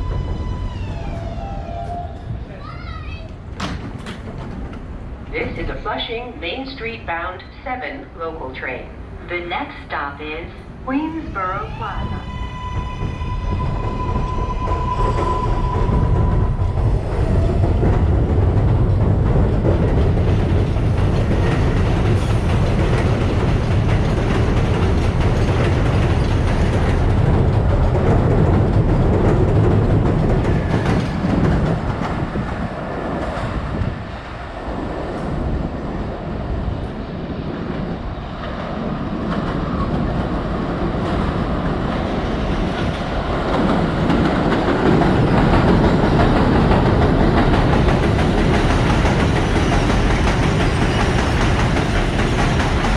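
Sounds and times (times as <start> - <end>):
subway train wheels clattering: 0.0 - 52.9.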